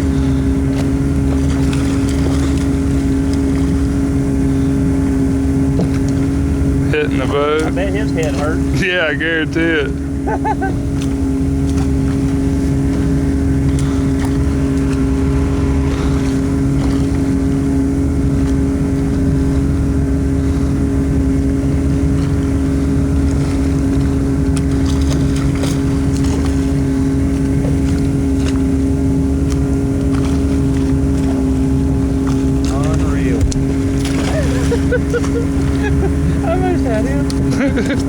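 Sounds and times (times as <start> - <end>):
boat engine drone: 0.0 - 38.0.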